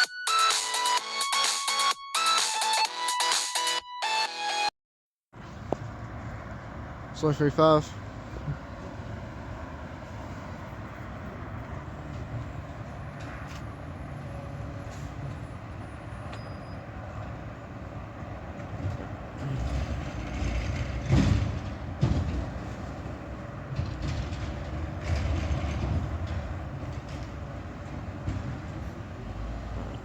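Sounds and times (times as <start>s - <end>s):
garbage truck engine rumbling: 5.4s - 30.0s.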